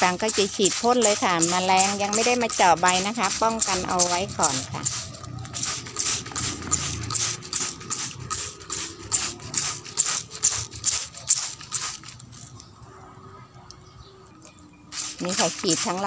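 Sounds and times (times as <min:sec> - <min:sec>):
spray bottle hissing sprays: 0:00.0 - 0:12.3, 0:14.9 - 0:16.0.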